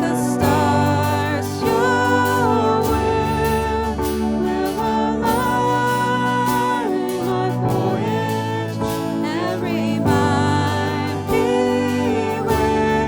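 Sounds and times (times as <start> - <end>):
worship band music: 0.0 - 13.0.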